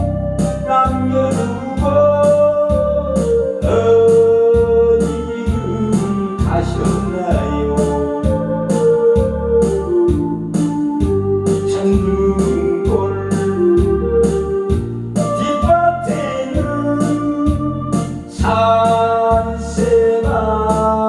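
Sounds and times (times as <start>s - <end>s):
bass: 0.0s - 21.0s
electronic organ melody: 0.0s - 21.0s
steady drum beat: 0.0s - 21.0s.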